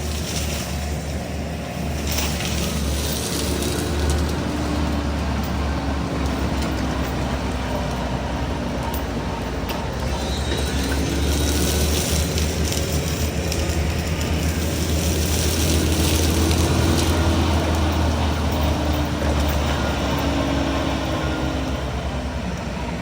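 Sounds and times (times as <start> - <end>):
mulcher head shredding undergrowth: 0.0 - 22.7
diesel engine running under load: 0.0 - 23.0.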